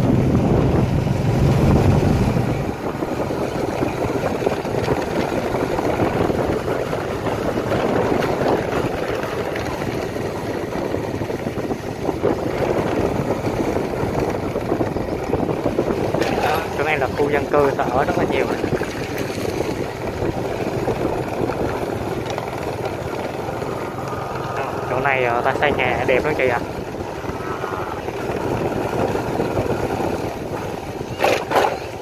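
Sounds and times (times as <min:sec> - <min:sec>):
vehicle engine on dirt lane: 0:00.0 - 0:32.0
wind rumbling on microphone: 0:00.0 - 0:32.0.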